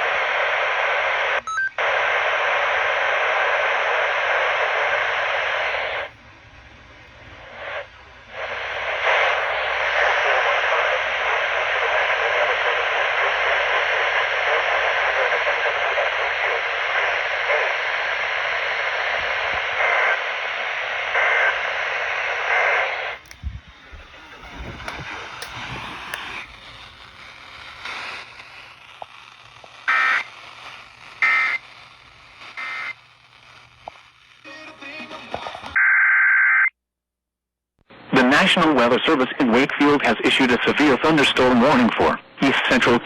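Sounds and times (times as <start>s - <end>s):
radio static hiss: 0.0s - 36.7s, 37.9s - 43.0s.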